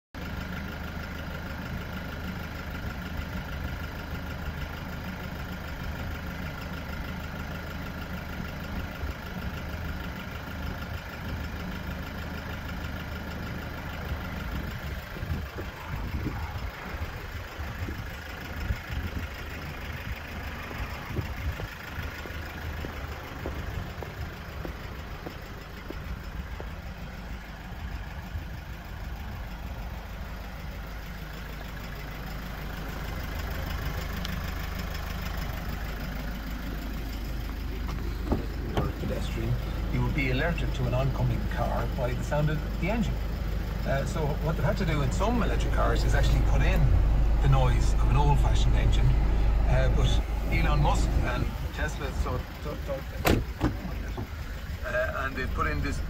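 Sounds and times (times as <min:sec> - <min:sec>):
diesel engine idling: 0:00.2 - 0:56.0.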